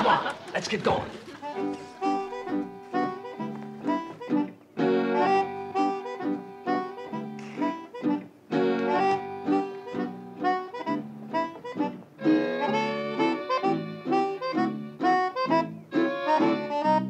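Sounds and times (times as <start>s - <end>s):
staccato music with reedy instrument: 0.0s - 17.0s.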